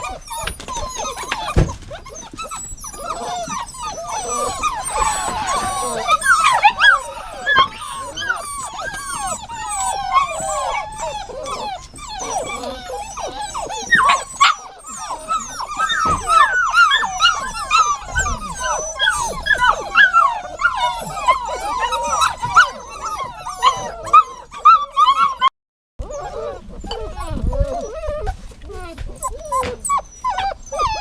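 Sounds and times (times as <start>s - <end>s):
dogs whining and whimpering: 0.0s - 31.0s.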